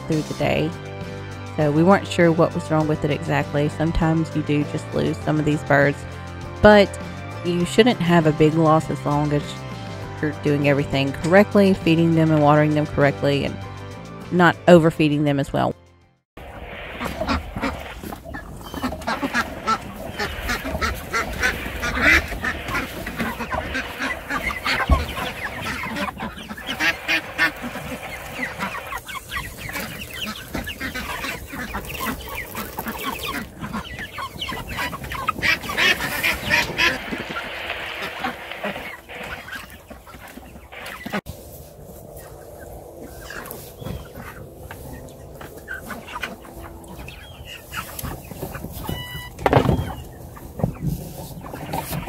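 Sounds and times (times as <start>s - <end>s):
chickens calling: 0.0s - 13.6s, 16.4s - 52.0s
ducks quacking: 0.0s - 13.6s, 16.4s - 52.0s.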